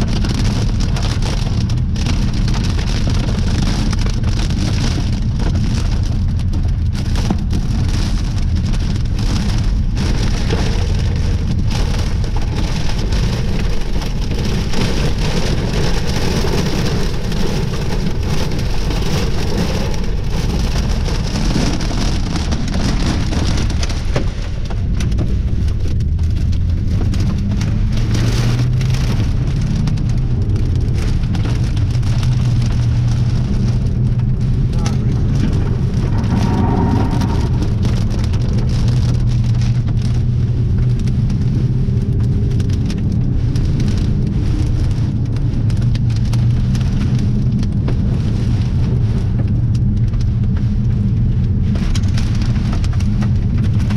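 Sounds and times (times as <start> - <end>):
heavy rain pelting down: 0.0 - 53.9
loud low rumble: 0.0 - 53.9.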